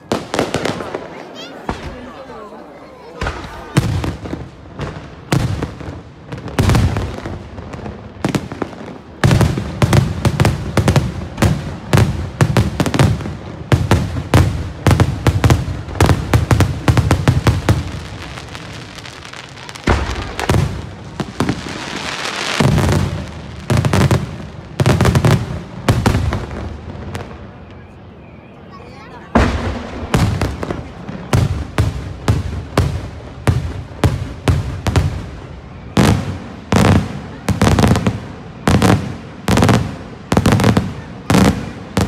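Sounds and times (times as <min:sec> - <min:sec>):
fireworks bangs and crackling: 0:00.0 - 0:42.0.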